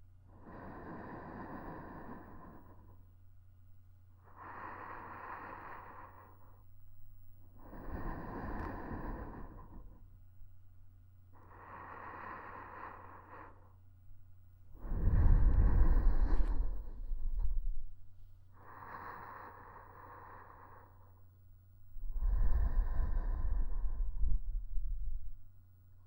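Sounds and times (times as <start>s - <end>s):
slow close breathing: 0.0s - 3.4s, 4.0s - 26.0s
faint low hum: 0.0s - 26.0s.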